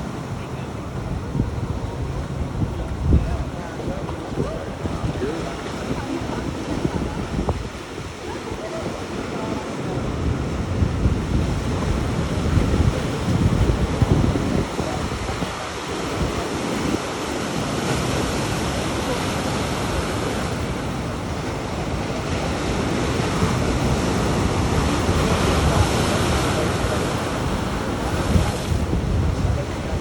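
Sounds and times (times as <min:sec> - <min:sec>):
heavy surf breaking: 0:00.0 - 0:30.0
wind buffeting microphone: 0:00.0 - 0:30.0.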